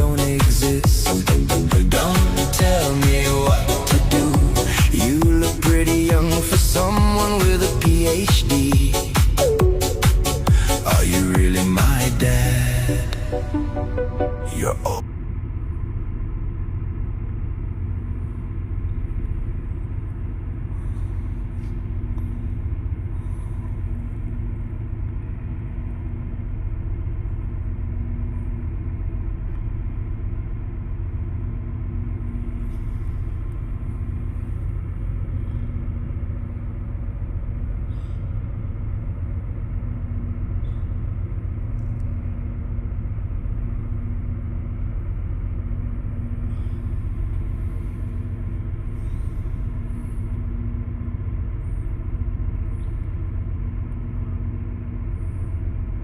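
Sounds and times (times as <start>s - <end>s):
faint hum: 0.0s - 56.0s
heavy machinery rumbling: 0.0s - 56.0s.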